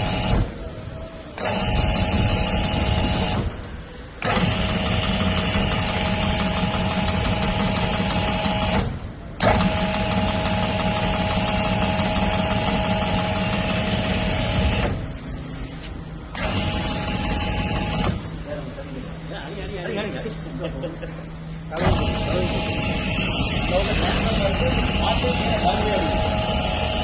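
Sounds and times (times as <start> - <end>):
pressure washer motor humming: 0.0 - 0.6, 1.3 - 15.2, 16.3 - 18.4, 21.7 - 27.0.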